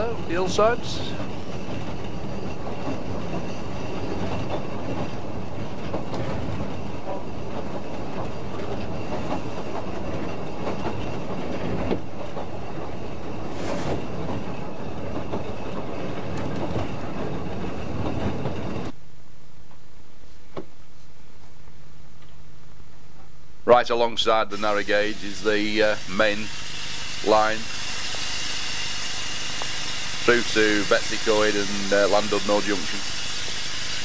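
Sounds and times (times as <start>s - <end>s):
train wheels rumbling on track: 0.0s - 19.0s, 24.4s - 34.0s.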